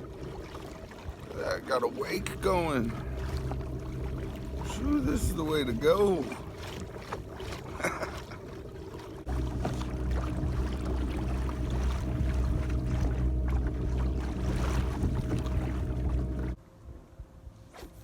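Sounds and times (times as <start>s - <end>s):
kayak motor humming: 0.0s - 16.6s.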